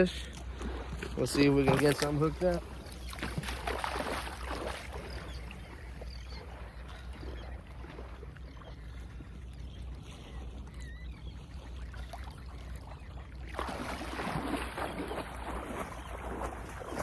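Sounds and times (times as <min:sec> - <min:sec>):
water noise: 0:00.0 - 0:17.0.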